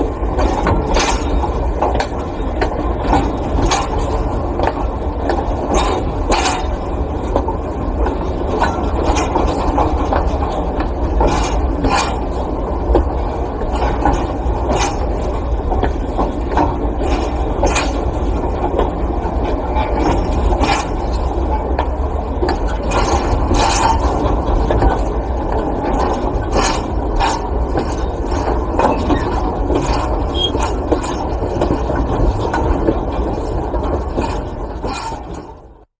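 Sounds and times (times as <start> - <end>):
wagons rattling and clanking: 0.2 - 35.6.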